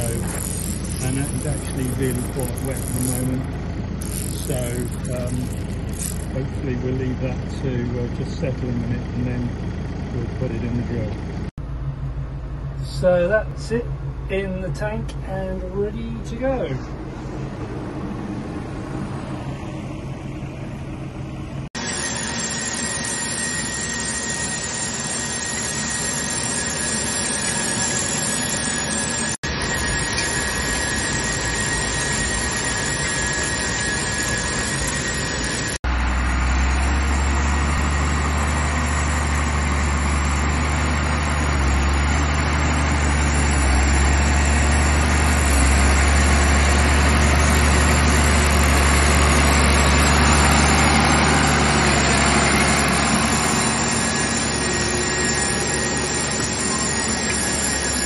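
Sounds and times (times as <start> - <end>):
tractor engine drone: 0.0 - 58.0.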